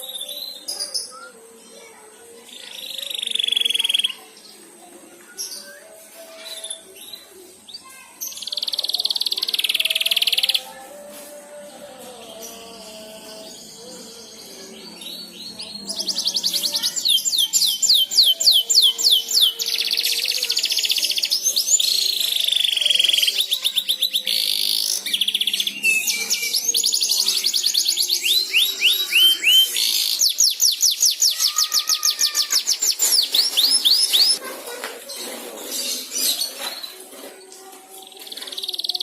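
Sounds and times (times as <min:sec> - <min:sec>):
canary singing trills: 0:00.0 - 0:04.6, 0:05.2 - 0:11.0, 0:11.9 - 0:34.4, 0:38.0 - 0:39.0.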